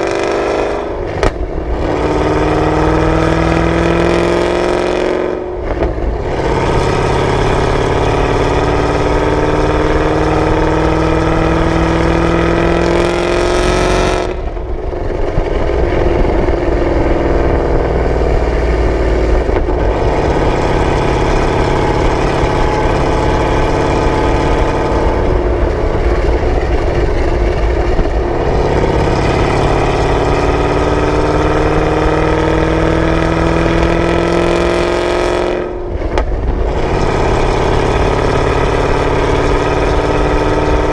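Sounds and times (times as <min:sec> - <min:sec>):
car exhaust note while driving: 0:00.0 - 0:40.9.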